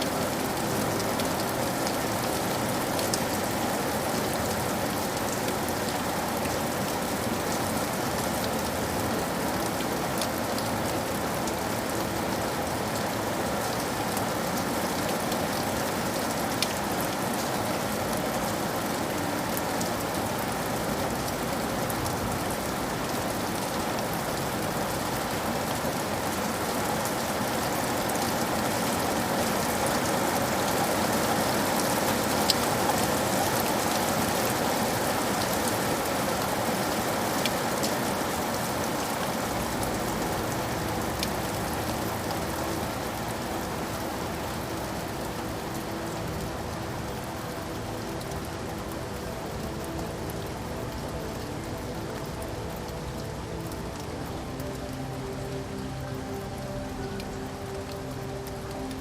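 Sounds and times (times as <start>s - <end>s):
rain drop ticks: 0.0s - 59.0s
steady rain hiss: 0.0s - 59.0s.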